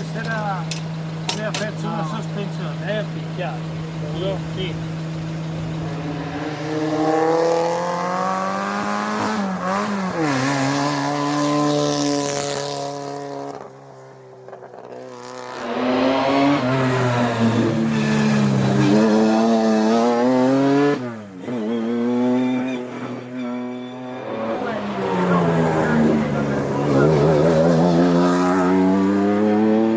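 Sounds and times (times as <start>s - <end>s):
racing car engine revving: 0.0s - 29.9s.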